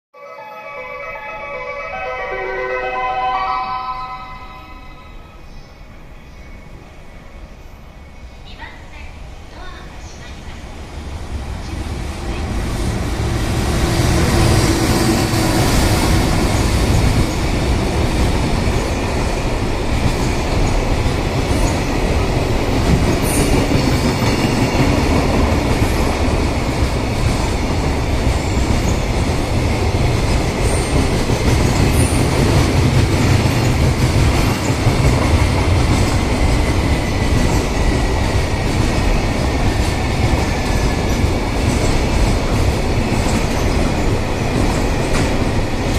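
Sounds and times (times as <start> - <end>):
train wheels rumbling on rails: 5.1 - 45.9.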